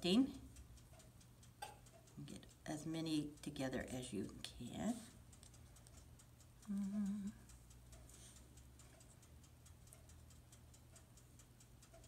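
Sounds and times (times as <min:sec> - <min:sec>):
mechanical ticking: 0:00.0 - 0:12.0.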